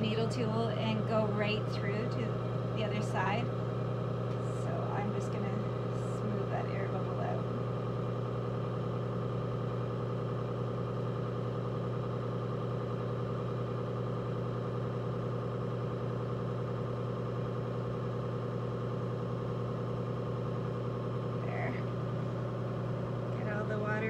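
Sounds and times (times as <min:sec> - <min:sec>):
potter's wheel motor hum: 0:00.0 - 0:24.0.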